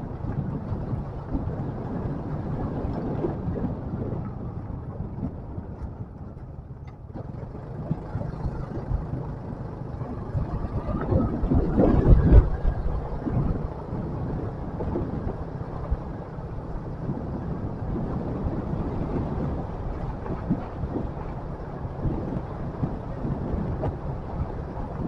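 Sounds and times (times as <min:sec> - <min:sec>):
motorcycle engine rumbling: 0:00.0 - 0:25.0
wind noise on microphone: 0:00.0 - 0:25.0.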